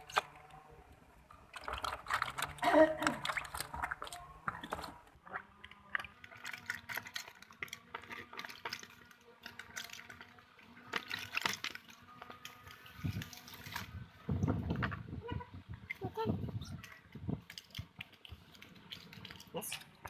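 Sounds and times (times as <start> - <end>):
water dripping and splashing: 1.3 - 15.0, 15.7 - 20.0.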